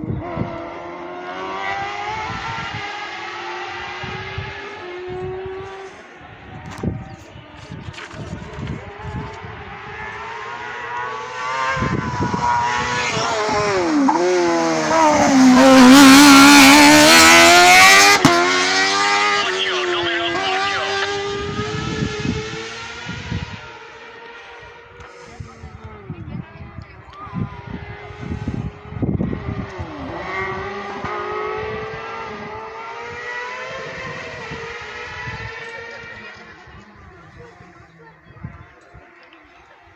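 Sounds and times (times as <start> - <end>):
racing buggy engine at high revs: 0.0 - 39.9.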